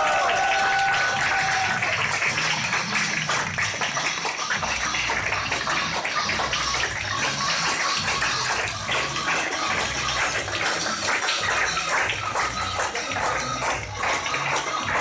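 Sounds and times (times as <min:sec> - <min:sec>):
crowd clapping: 0:00.0 - 0:15.0.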